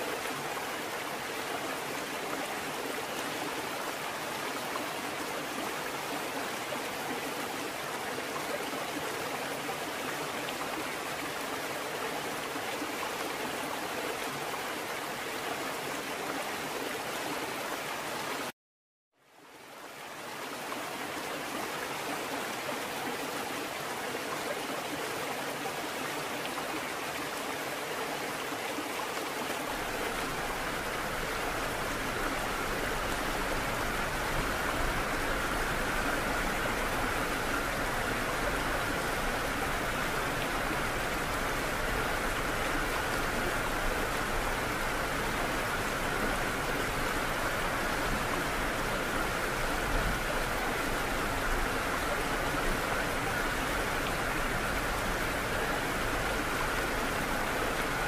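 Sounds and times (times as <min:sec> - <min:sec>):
rushing water: 0:00.0 - 0:18.6, 0:19.2 - 0:58.0.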